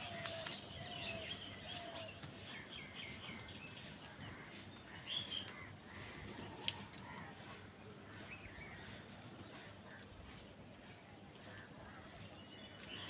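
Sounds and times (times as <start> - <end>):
crows chirping and calling: 0.0 - 13.0.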